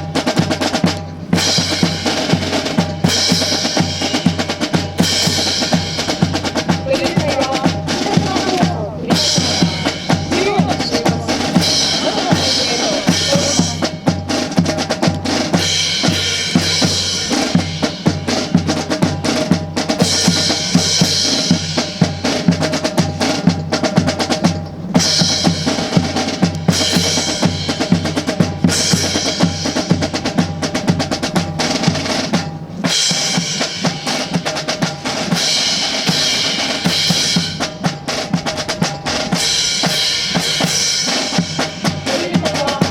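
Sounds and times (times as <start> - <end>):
snare and bass drum cadence: 0.0 - 42.9.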